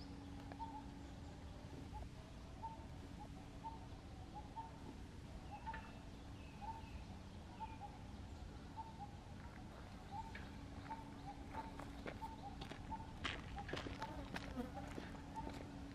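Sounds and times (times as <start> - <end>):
bird chirping: 0.0 - 15.9
low outdoor rumble: 0.0 - 15.9.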